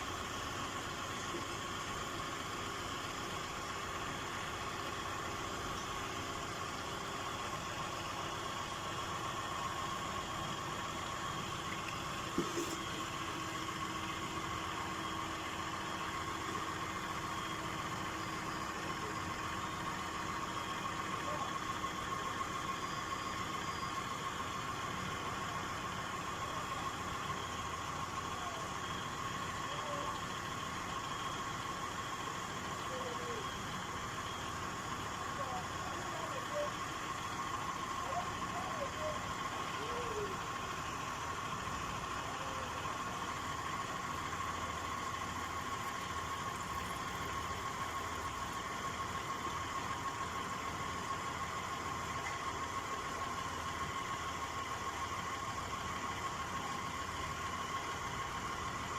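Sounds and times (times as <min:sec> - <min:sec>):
car engine idling: 0:00.0 - 0:58.9.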